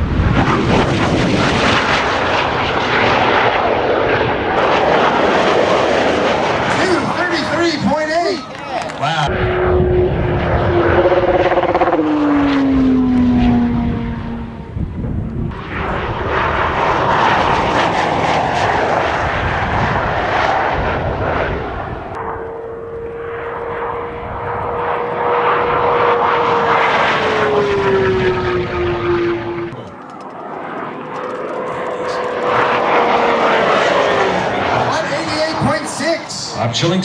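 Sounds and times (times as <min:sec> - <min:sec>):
sports cars passing at speed: 0:00.0 - 0:08.4, 0:09.2 - 0:29.8, 0:30.4 - 0:36.4
wind and tyre noise: 0:00.0 - 0:36.0.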